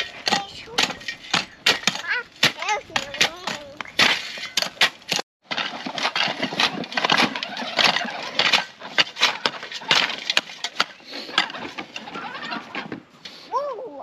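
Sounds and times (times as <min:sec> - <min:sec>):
shovels digging rocky dirt: 0:00.0 - 0:13.4.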